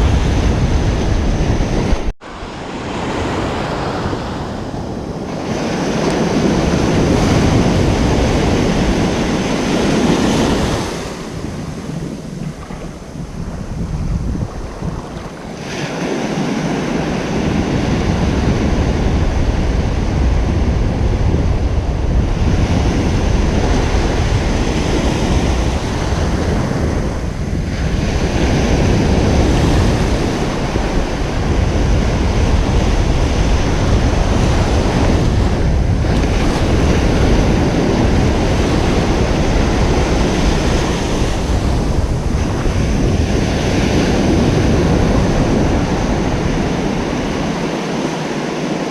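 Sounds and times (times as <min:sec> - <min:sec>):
ocean surf breaking on beach: 0:00.0 - 0:48.9
wind buffeting microphone: 0:00.0 - 0:48.9.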